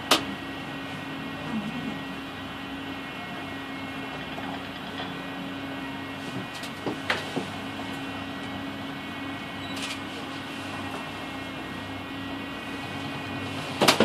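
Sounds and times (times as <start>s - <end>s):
cable car cabin hum and rush: 0.0s - 14.0s.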